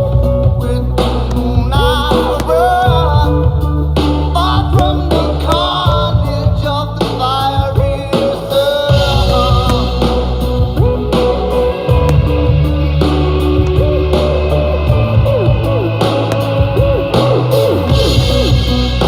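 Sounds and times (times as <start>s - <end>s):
loud rock song: 0.0s - 19.0s.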